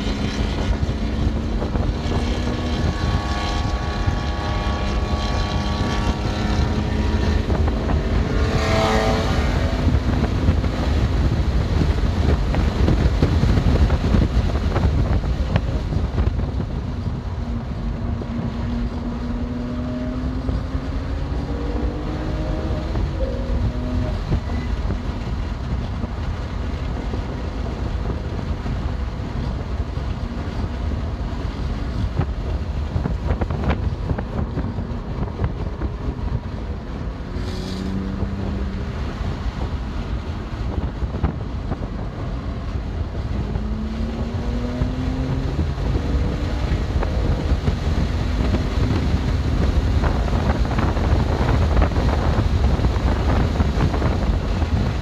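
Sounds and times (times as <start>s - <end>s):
car engine accelerating: 0.0s - 55.0s
road noise: 0.0s - 55.0s
wind noise: 0.0s - 55.0s.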